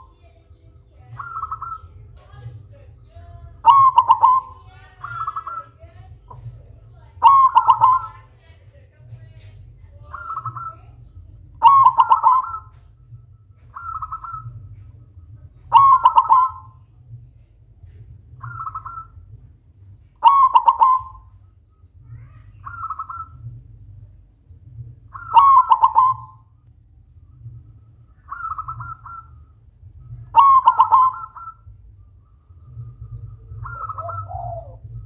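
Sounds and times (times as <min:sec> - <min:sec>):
dove cooing in staccato phrases: 0:01.0 - 0:08.6, 0:09.3 - 0:16.9, 0:18.3 - 0:19.5, 0:20.1 - 0:26.6, 0:27.3 - 0:35.0.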